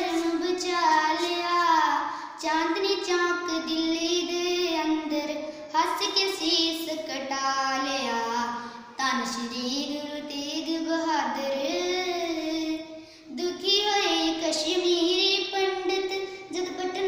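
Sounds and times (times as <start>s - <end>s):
girl singing unaccompanied: 0.0s - 17.0s.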